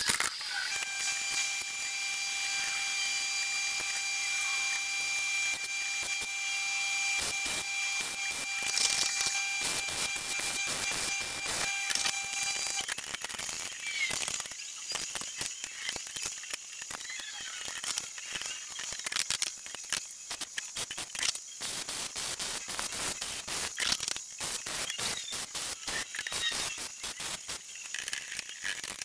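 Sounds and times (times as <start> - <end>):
welder crackling: 0.0 - 29.0.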